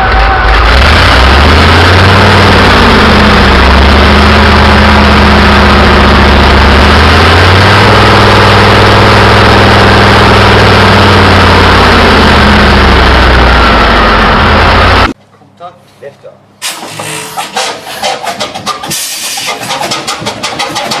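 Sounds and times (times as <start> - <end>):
diesel engine running: 0.0 - 15.2, 16.6 - 21.0.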